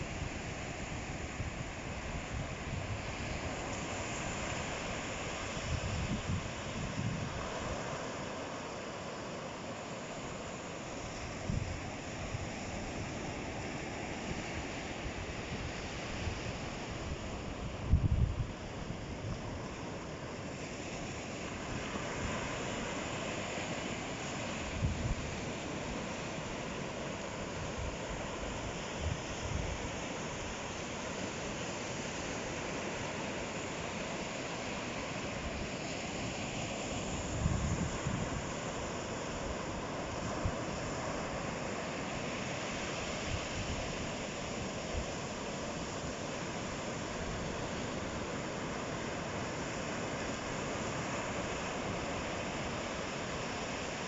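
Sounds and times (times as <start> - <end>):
ocean surf washing ashore: 0.0 - 54.0.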